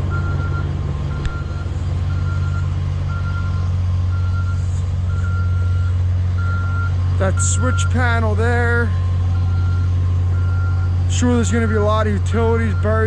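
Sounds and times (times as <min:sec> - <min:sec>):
diesel engine running: 0:00.0 - 0:13.0
reversing alarm beeping: 0:00.0 - 0:13.0.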